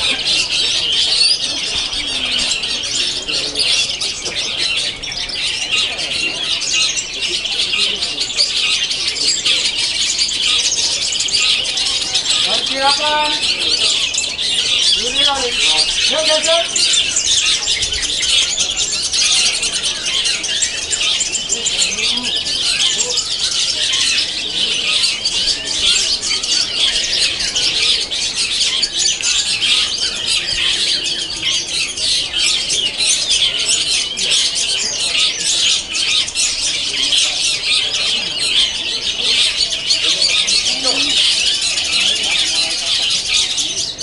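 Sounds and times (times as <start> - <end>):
many birds singing and chirping: 0.0 - 44.0.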